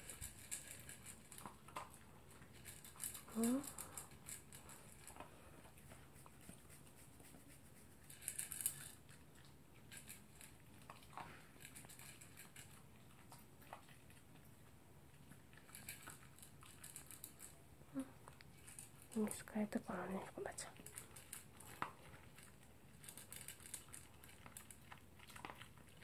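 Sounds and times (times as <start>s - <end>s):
dog chewing: 0.0s - 19.3s, 20.6s - 26.0s.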